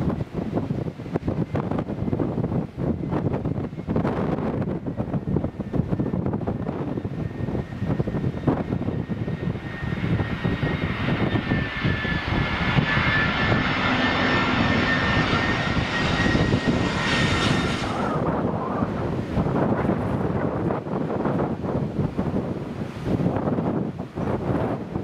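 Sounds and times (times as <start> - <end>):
jet airliner passing overhead: 0.0 - 25.0
wind rumble on microphone: 0.0 - 25.0.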